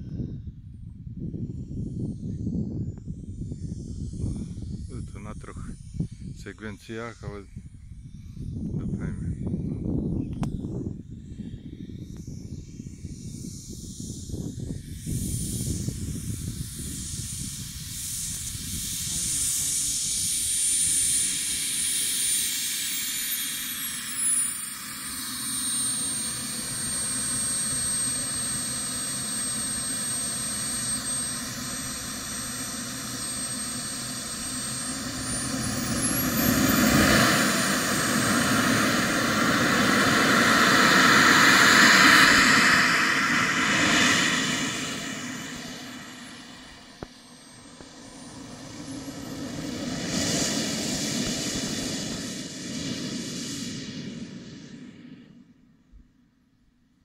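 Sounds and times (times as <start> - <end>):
model jet engine whine: 0.0 - 57.0.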